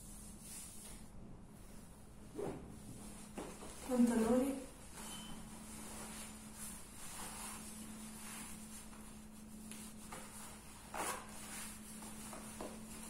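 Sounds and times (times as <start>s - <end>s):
steady low hum: 0.0s - 13.0s
clothing rustling: 0.4s - 13.0s.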